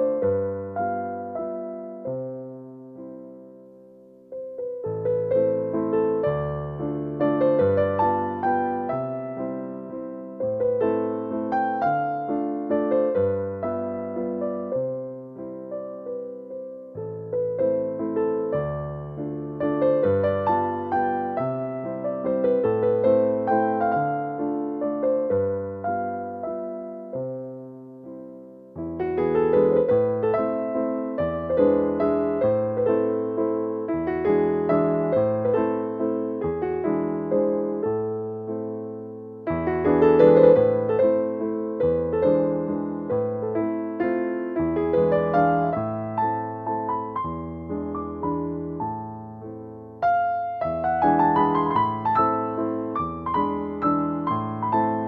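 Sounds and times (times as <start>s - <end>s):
solo piano music: 0.0s - 55.0s.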